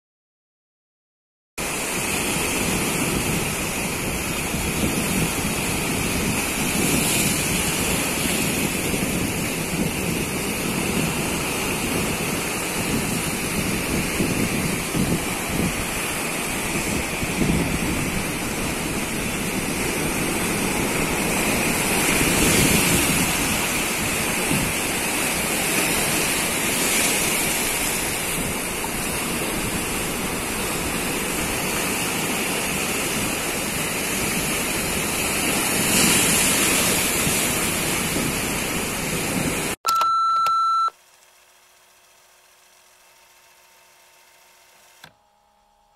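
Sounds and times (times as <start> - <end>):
surf breaking over rocks: 1.6 - 39.8.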